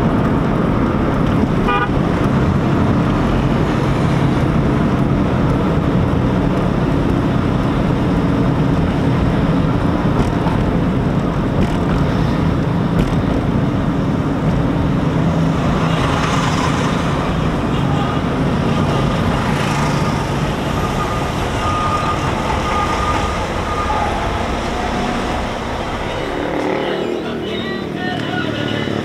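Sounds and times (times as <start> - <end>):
car cabin road noise: 0.0 - 28.9.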